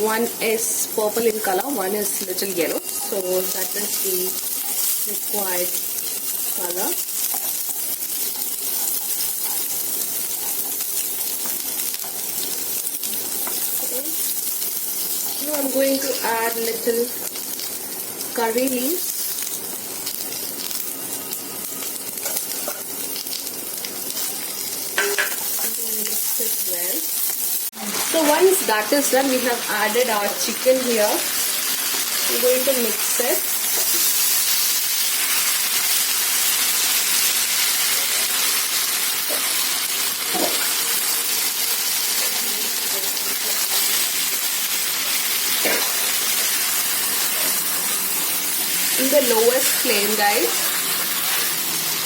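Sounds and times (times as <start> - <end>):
frying in hot oil sizzling: 0.0 - 52.0
small crackles of frying: 0.0 - 52.0.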